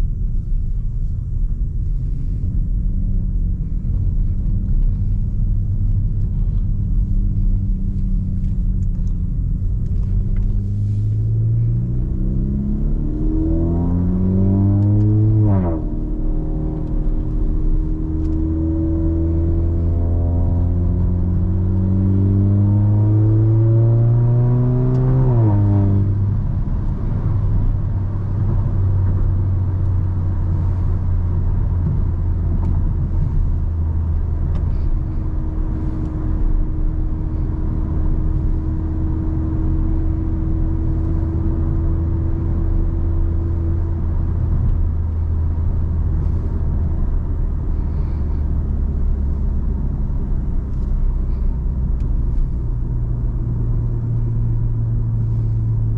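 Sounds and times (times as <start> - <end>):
car engine accelerating: 0.0 - 55.9
road noise: 0.0 - 55.9.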